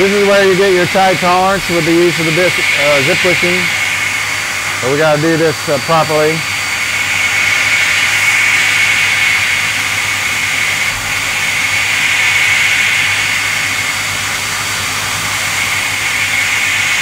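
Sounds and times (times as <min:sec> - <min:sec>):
milling machine spindle whine: 0:00.0 - 0:17.0.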